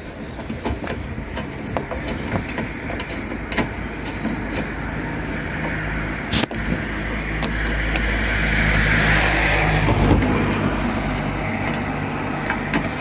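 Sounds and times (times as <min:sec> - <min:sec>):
passing motor vehicle: 0:00.1 - 0:13.0.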